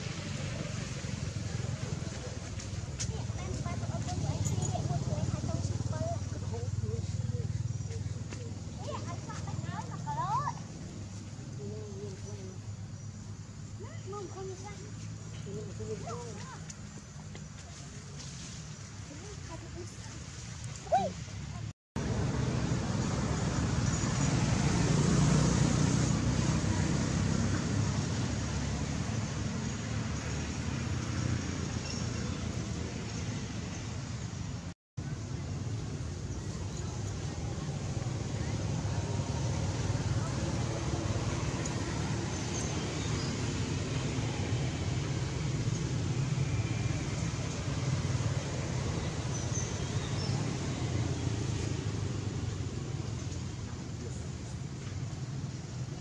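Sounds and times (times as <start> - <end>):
distant road traffic rumble: 0.0 - 56.0.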